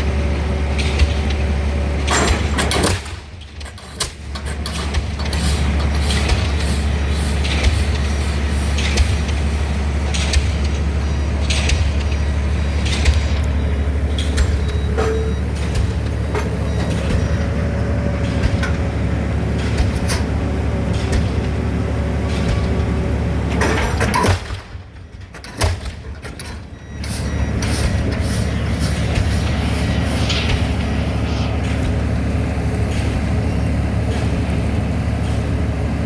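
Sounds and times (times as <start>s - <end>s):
low engine drone: 0.0s - 25.6s, 26.4s - 36.0s.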